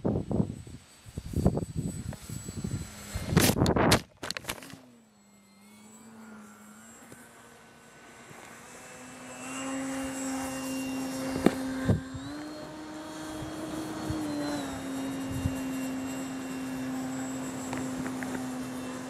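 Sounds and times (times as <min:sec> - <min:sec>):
model plane motor and propeller drone: 0:00.0 - 0:19.0.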